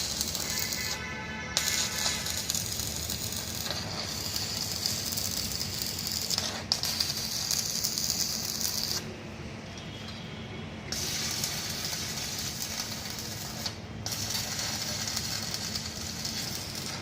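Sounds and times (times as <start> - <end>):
arc welding crackling hiss: 0.0 - 9.1, 10.9 - 17.0.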